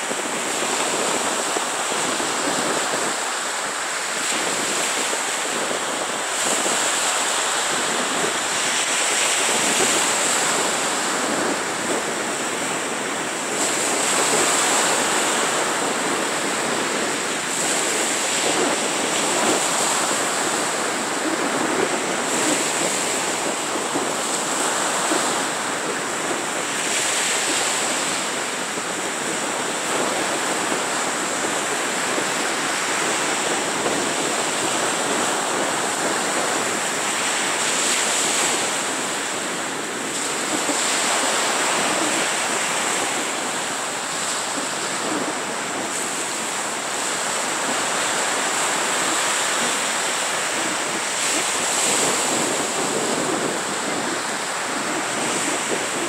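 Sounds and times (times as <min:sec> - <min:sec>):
small waves washing on sand: 0:00.0 - 0:56.0.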